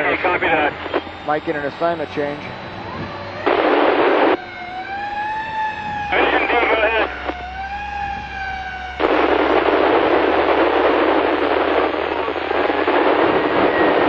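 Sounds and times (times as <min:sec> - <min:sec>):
radio transmission noise rush: 0:00.0 - 0:05.0, 0:05.6 - 0:08.4, 0:09.0 - 0:14.0
steady radio tone: 0:00.0 - 0:14.0.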